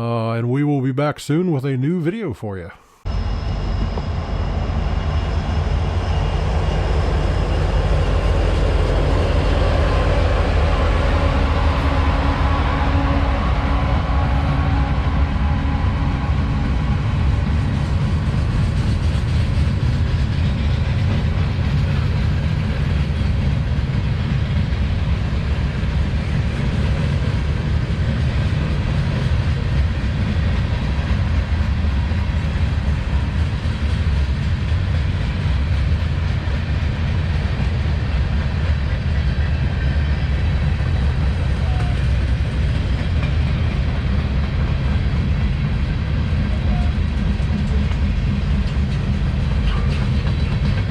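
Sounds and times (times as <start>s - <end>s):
train wheels rumbling on rails: 3.2s - 50.9s.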